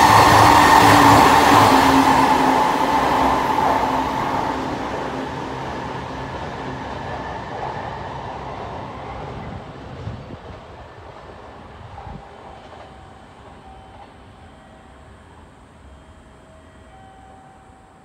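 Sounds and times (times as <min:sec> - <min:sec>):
loud wheel-on-rail noise: 0:00.0 - 0:18.0
train low hum: 0:00.0 - 0:18.0.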